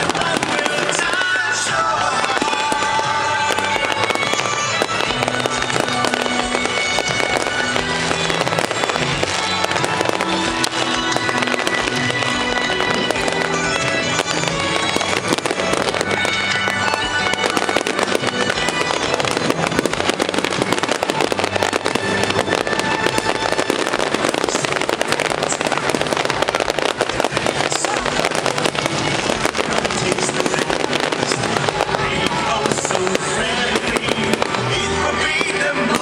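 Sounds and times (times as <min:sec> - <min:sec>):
fireworks crackling and popping: 0:00.0 - 0:36.0
show music: 0:00.0 - 0:36.0.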